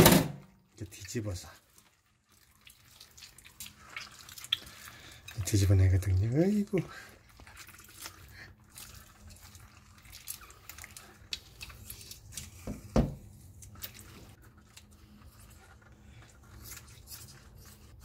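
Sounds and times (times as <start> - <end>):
wet slippery handling of octopus: 0.7 - 18.0.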